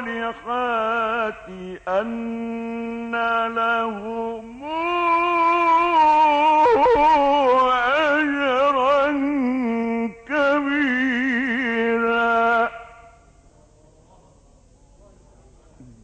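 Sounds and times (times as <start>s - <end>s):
man reciting melodically: 0.0s - 13.4s.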